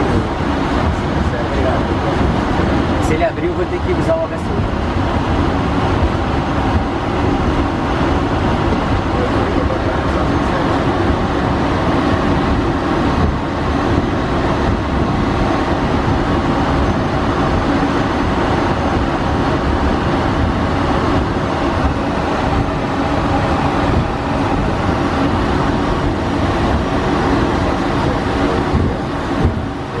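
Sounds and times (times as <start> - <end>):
jet engines in cockpit: 0.0 - 30.0.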